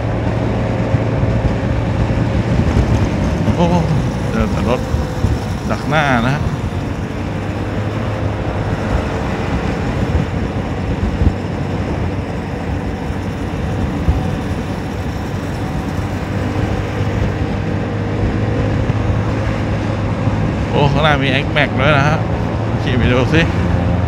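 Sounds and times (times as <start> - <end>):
road and wind noise: 0.0 - 24.0
scooter engine cruising: 0.0 - 24.0.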